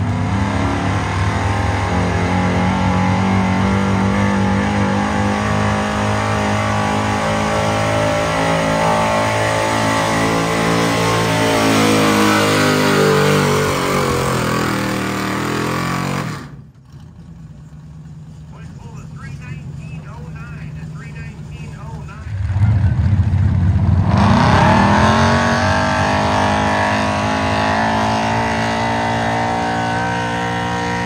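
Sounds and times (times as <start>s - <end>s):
vehicle engine running under load: 0.0s - 31.0s.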